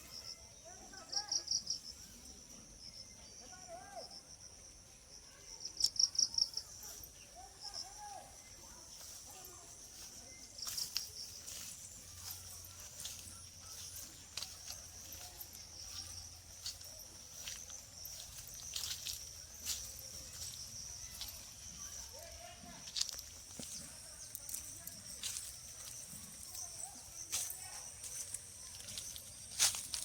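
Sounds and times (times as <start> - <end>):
insects trilling: 0.0 - 30.0
rapid insect pulses: 1.1 - 30.0.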